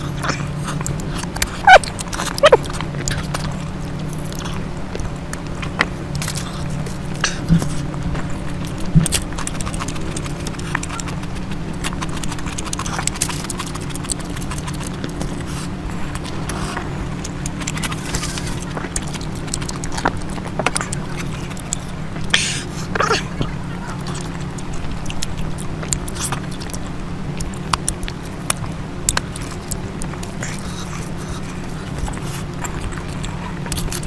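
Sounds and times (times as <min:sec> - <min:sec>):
steady low hum: 0:00.0 - 0:34.0
wet chewing and smacking: 0:00.0 - 0:34.0.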